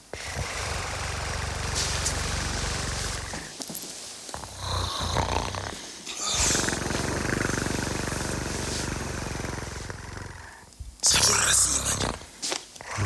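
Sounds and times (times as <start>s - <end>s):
rattling snore: 0.0s - 3.6s, 4.4s - 13.0s.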